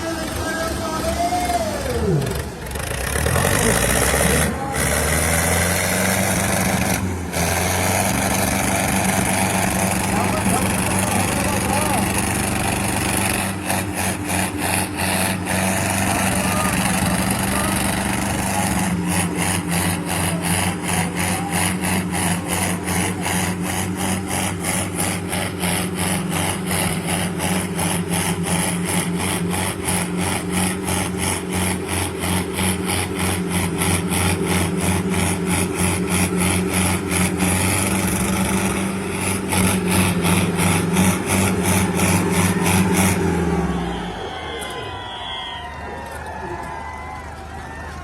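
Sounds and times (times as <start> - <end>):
tractor diesel engines pulsing: 0.0 - 48.0.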